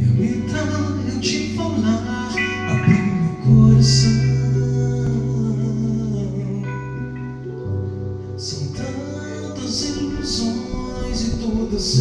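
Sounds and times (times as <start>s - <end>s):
band playing instrumental chords: 0.0s - 12.0s
deep bass note: 0.0s - 12.0s.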